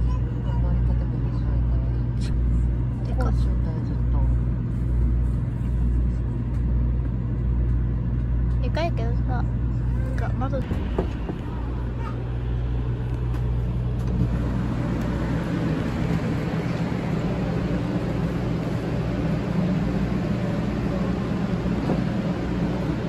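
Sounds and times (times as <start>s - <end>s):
train low rumble and hum: 0.0s - 23.0s.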